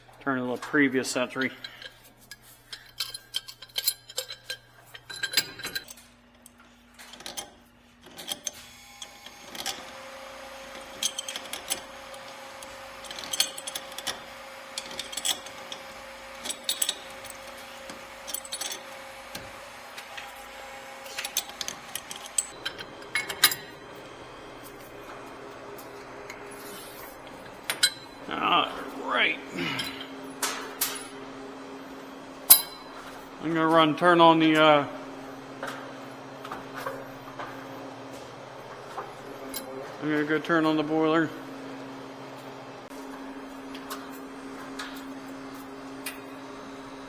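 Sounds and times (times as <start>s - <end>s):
metal tools clinking: 0.0s - 41.5s
steady hum: 8.7s - 47.0s.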